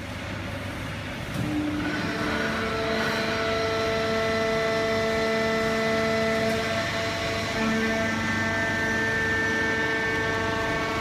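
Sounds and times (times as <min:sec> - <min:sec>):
baler machine drone: 0:00.0 - 0:11.0
humming tones: 0:01.3 - 0:11.0.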